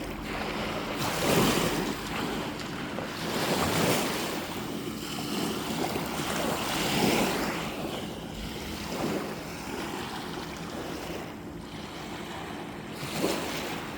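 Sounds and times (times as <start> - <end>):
water washing in surges: 0.0 - 13.9.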